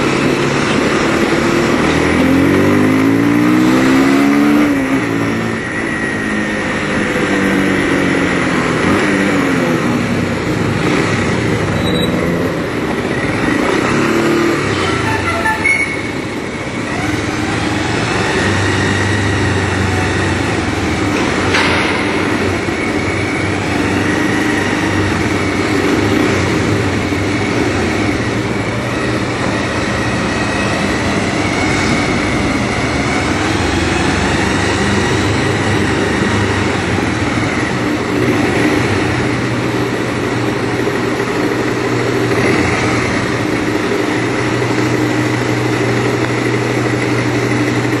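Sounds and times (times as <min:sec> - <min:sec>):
wind and road noise: 0:00.0 - 0:48.0.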